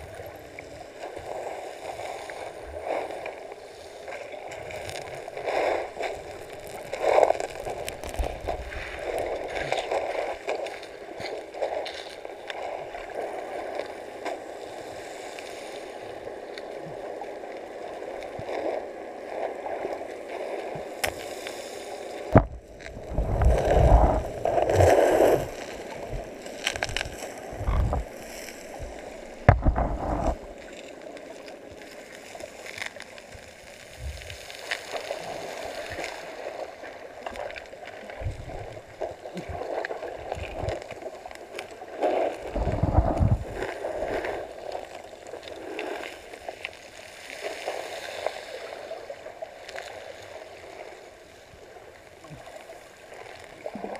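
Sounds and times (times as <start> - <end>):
muffled underwater wash of seawater: 0.0 - 53.9.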